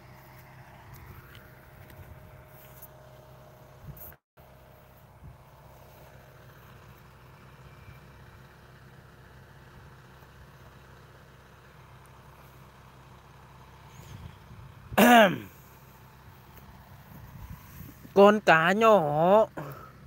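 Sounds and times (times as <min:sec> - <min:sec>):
faint engine drone: 0:00.0 - 0:20.0.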